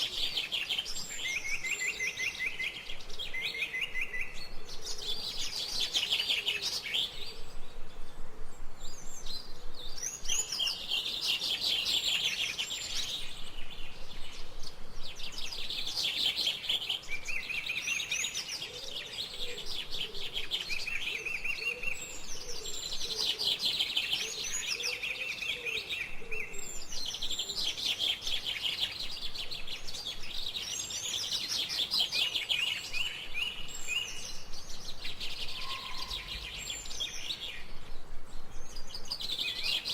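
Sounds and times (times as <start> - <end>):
lower bird calls: 0.0 - 39.9
songbirds chirping and trilling: 0.0 - 39.9.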